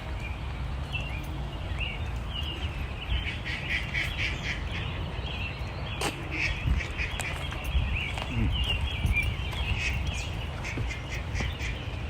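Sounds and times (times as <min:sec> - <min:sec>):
birds squawking chirps: 0:00.2 - 0:12.0.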